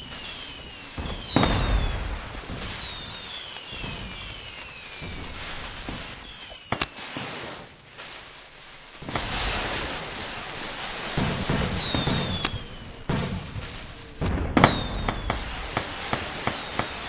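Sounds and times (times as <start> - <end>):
firework bang: 0.0 - 8.2, 9.0 - 17.0
firework whistles falling in pitch: 0.0 - 8.2, 9.0 - 17.0
sharp firework cracks: 0.0 - 17.0.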